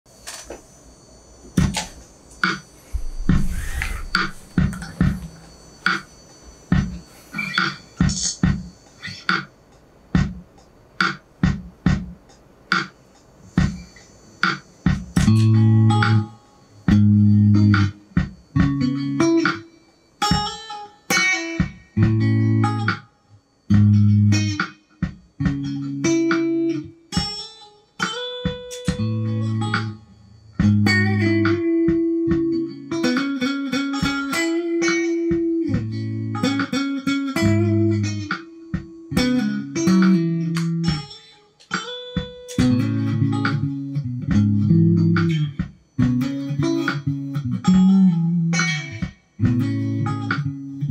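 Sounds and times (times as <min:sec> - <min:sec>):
electric guitar playing: 0:02.5 - 0:09.3, 0:15.0 - 0:23.0, 0:23.7 - 0:50.9.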